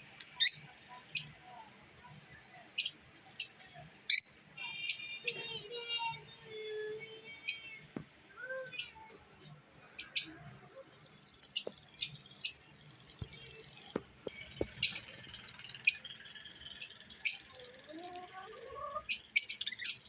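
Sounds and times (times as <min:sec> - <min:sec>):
lovebirds chirping: 0:02.7 - 0:20.0.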